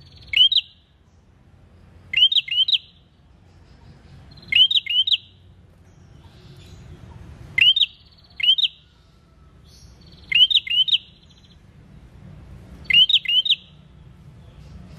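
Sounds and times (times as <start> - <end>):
bird singing: 0.0 - 12.2, 12.8 - 14.9.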